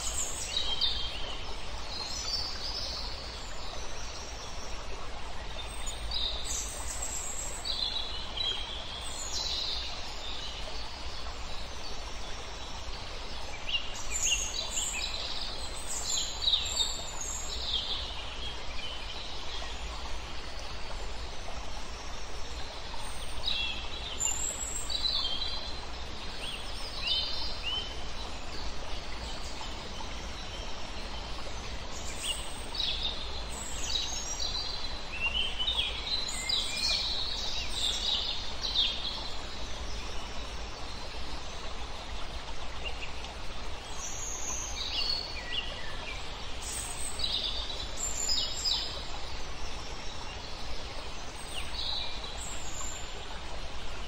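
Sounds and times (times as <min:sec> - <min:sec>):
woodland ambience hiss: 0:00.0 - 0:54.0.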